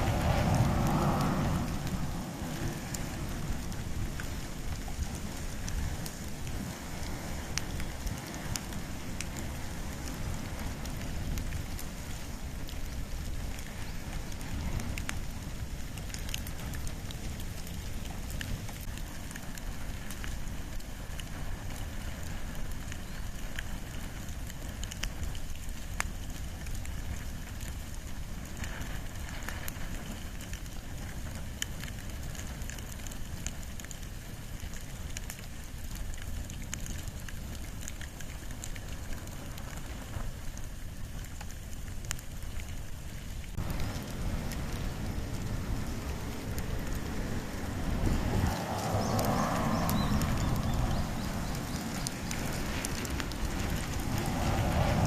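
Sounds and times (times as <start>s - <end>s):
fire crackling and popping: 0.0s - 55.0s
fire flames rushing: 0.0s - 55.0s.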